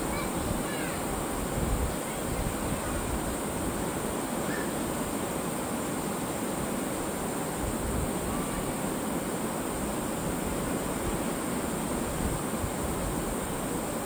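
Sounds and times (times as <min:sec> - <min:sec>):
ocean surf on a beach: 0:00.0 - 0:14.0.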